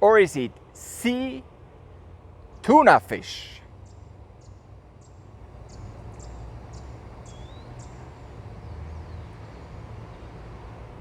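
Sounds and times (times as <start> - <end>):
birds chirping: 0.0 - 11.0
low outdoor rumble: 0.0 - 11.0.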